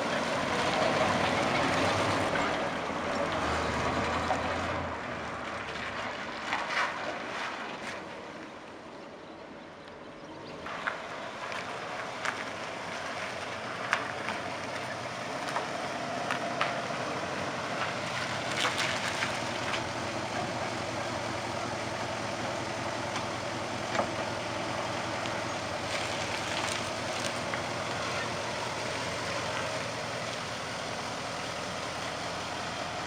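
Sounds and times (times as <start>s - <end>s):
car engine running at low speed: 0.0s - 33.0s.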